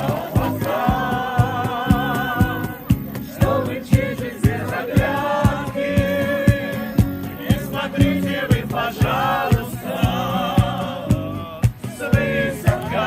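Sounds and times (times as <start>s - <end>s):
people singing: 0.0s - 13.0s
steady drum beat: 0.0s - 13.0s.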